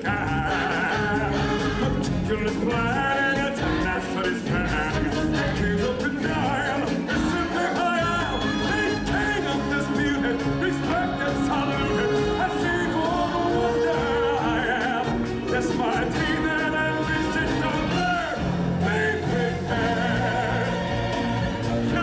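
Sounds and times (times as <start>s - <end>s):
song with instrumental accompaniment: 0.0s - 22.0s.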